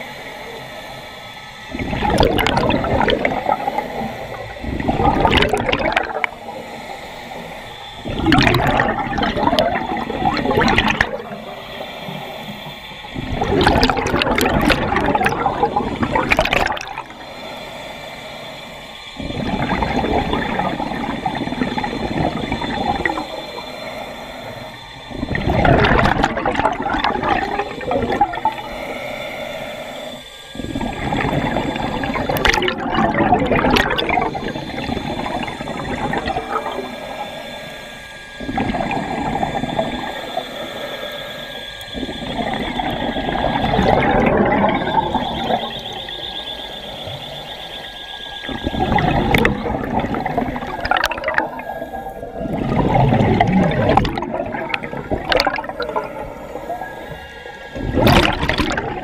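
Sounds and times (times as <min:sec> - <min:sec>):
breathing through scuba regulator: 0:00.0 - 0:59.0
exhaled bubbles rushing underwater: 0:00.0 - 0:59.0.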